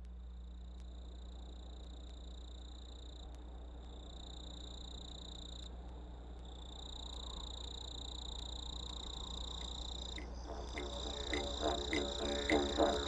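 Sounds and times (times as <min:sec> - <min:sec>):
low hum: 0:00.0 - 0:13.0
high insect trill: 0:00.1 - 0:13.0.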